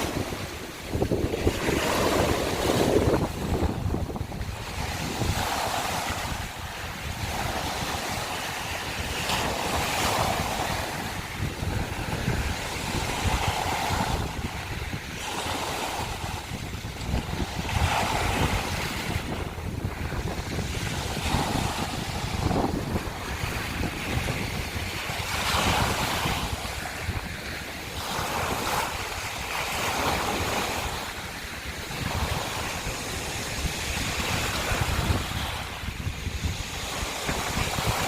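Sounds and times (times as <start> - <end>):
waves breaking on shell beach: 0.0 - 38.0
wind buffeting microphone: 0.0 - 38.0.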